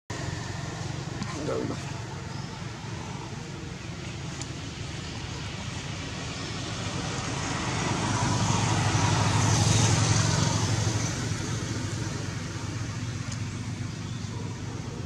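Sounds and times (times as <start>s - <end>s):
vehicle passing: 0.1s - 15.0s.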